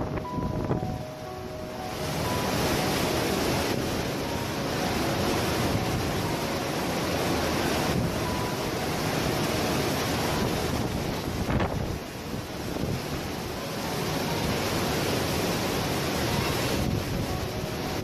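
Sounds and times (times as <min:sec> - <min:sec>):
heavy rain: 0:00.0 - 0:18.0
strong gusting wind: 0:00.0 - 0:18.0
wind buffeting microphone: 0:00.0 - 0:18.0.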